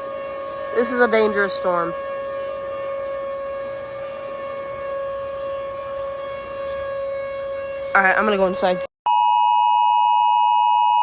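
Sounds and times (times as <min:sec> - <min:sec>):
warning siren steady tone: 0:00.0 - 0:11.0.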